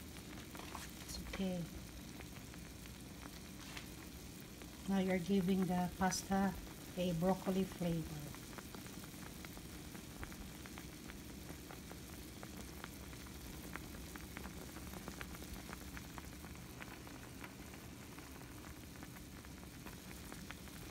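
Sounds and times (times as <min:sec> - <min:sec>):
water boiling with pops: 0:00.0 - 0:20.9.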